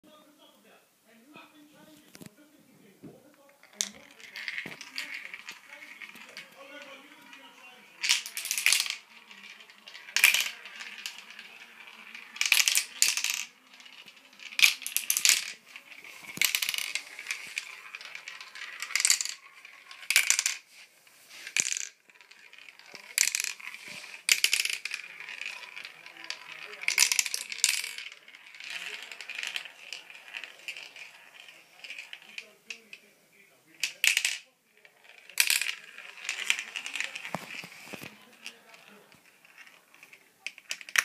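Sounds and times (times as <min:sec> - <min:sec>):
marbles clattering down plastic run: 0:03.6 - 0:20.7, 0:21.3 - 0:33.1, 0:33.7 - 0:41.0.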